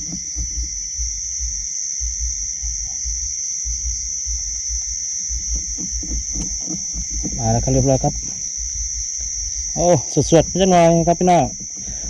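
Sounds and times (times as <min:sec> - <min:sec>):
crickets chirping: 0:00.0 - 0:12.0
low rumbling on microphone: 0:00.0 - 0:12.0.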